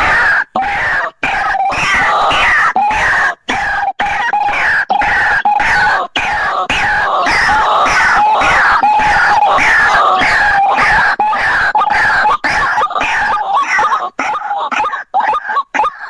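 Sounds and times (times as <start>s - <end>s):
bird croaking calls: 0.0s - 16.0s.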